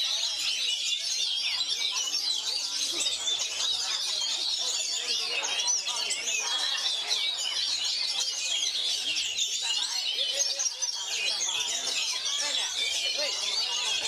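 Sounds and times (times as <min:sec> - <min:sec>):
bird singing: 0:00.0 - 0:14.0.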